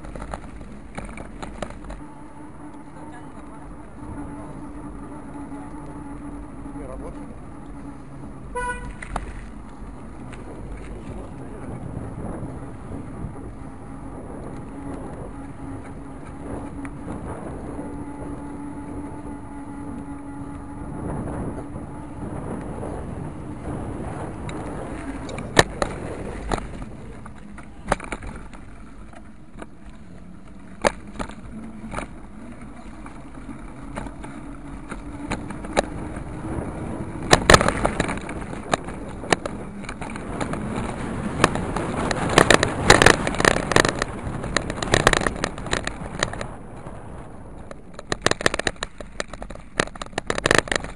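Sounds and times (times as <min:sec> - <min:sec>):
rattling over coarse asphalt: 0:00.0 - 0:50.9
wheels knocking on bumps: 0:00.0 - 0:50.9
wheels rolling over pavement: 0:00.0 - 0:50.9.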